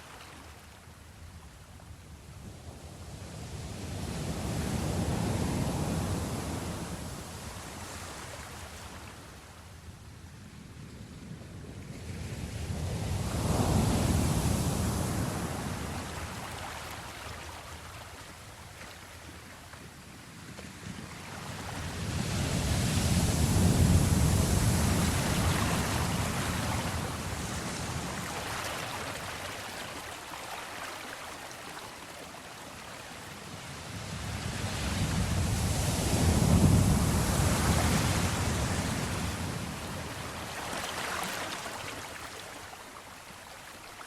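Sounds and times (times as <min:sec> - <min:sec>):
ocean waves washing ashore: 0:00.0 - 0:44.0.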